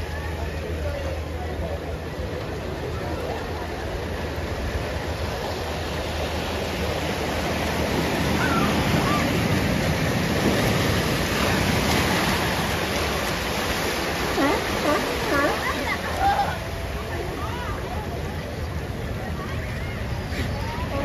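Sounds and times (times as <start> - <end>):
surf washing over rocks: 0.0 - 21.0.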